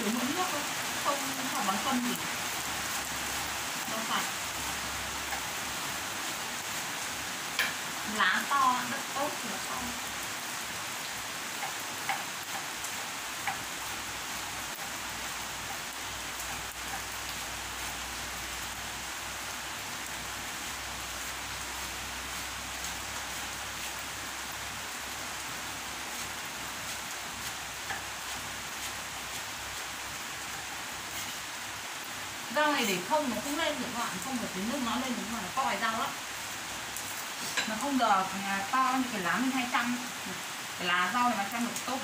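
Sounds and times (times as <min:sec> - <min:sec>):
heavy rain: 0:00.0 - 0:42.0.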